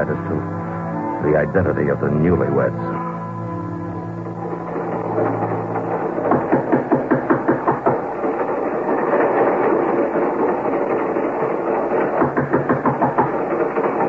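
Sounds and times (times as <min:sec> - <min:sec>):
railway carriage rumble: 0:00.0 - 0:14.0
rhythmic train wheel clatter: 0:00.0 - 0:14.0.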